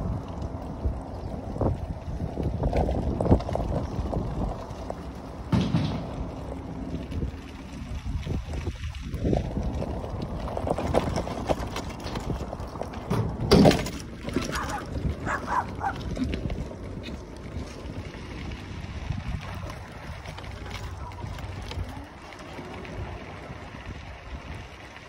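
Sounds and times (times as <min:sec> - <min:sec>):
scooter tyres rolling on gravel: 0:00.0 - 0:25.0
wind rumbling on microphone: 0:00.0 - 0:25.0.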